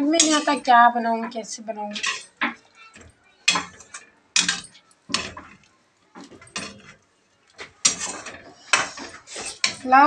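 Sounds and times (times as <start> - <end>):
metal utensils clattering: 0.0 - 0.8, 1.9 - 7.0, 7.6 - 10.0.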